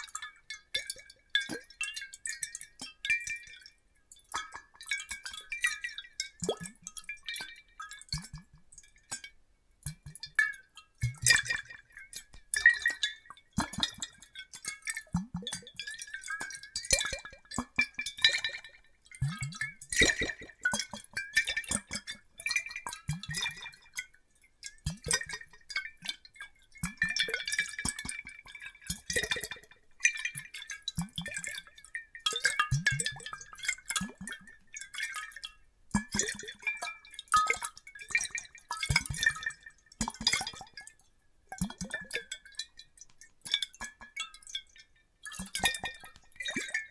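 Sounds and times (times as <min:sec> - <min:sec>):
water sloshing in glass bottles: 0:00.0 - 0:09.2, 0:09.8 - 0:46.9.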